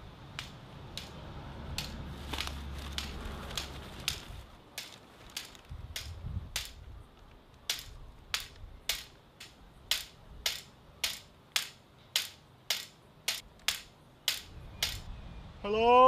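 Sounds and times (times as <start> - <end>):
cane tapping on brick paving: 0.3 - 15.0.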